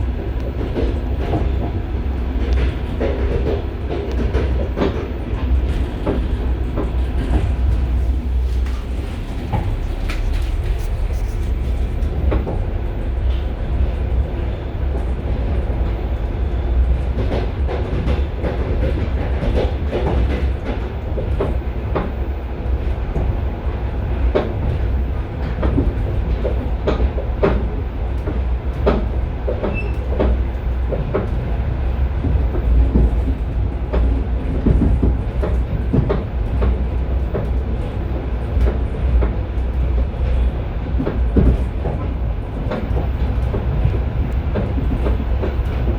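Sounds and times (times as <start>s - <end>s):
train running gear rumble: 0.0s - 45.9s
train wheels clacking over rail joints: 0.4s - 23.4s, 24.1s - 31.6s, 32.2s - 45.9s.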